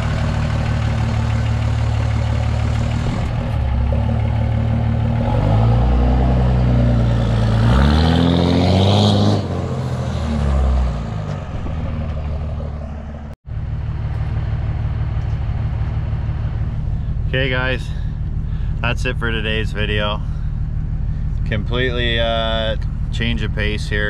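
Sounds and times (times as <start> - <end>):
diesel truck engine revving and idling: 0.0 - 24.0.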